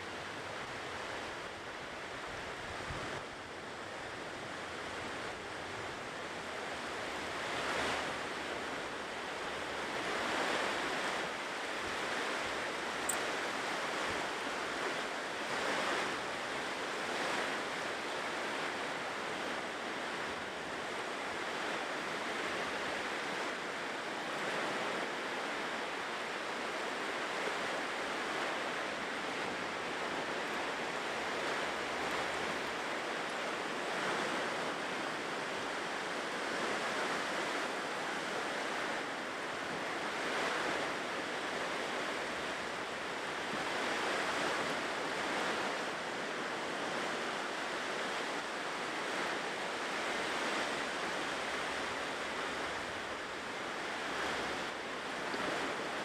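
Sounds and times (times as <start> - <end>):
ocean waves washing ashore: 0.0 - 56.0.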